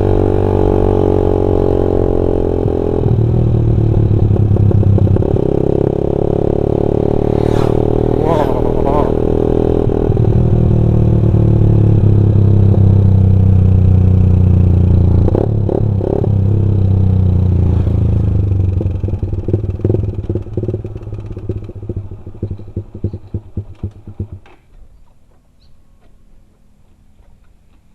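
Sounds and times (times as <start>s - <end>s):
motorcycle engine with deep exhaust: 0.0s - 25.7s.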